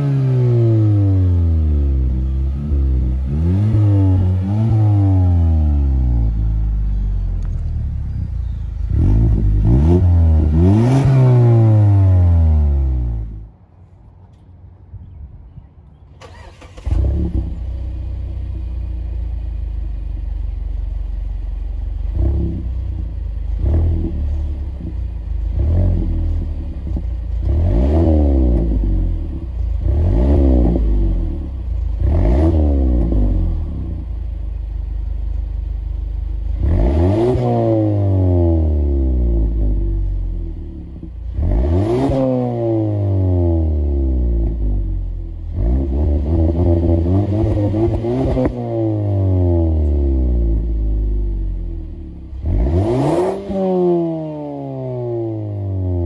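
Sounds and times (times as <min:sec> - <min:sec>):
car engine revving: 0:00.0 - 0:13.5, 0:21.8 - 0:34.8, 0:36.3 - 0:56.0.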